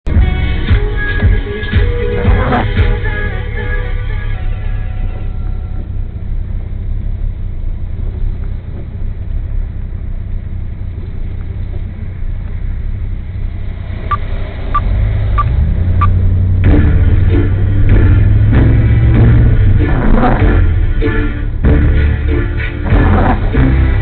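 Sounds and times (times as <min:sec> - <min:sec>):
vehicle rumble: 0:00.0 - 0:24.0
truck passing: 0:00.1 - 0:24.0.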